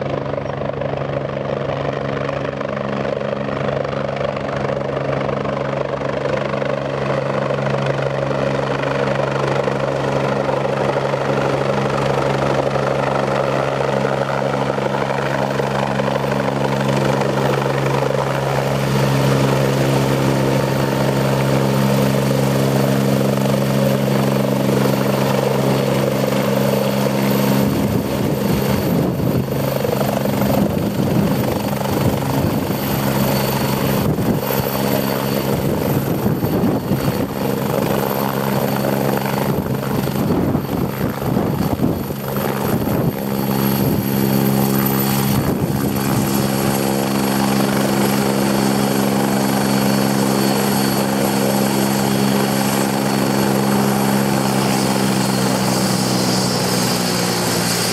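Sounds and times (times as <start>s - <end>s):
helicopter rotor and turbine whine: 0.0s - 57.9s.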